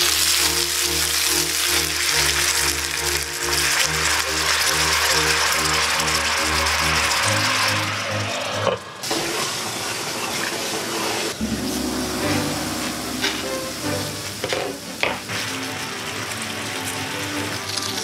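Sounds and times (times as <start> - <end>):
background music: 0.0 - 8.6, 11.4 - 18.0
food sizzling in a frying pan: 0.0 - 18.0.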